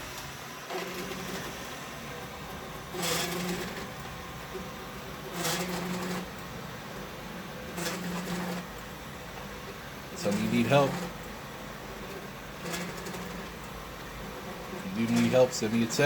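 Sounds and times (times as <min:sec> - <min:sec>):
motor whine and scraping: 0:00.0 - 0:16.0
robot vacuum cleaner running: 0:00.0 - 0:16.0.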